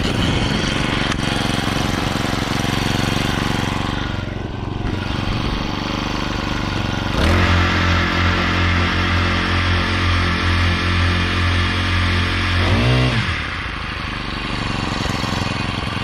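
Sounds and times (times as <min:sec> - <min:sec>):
small gas engine running: 0:00.0 - 0:16.0.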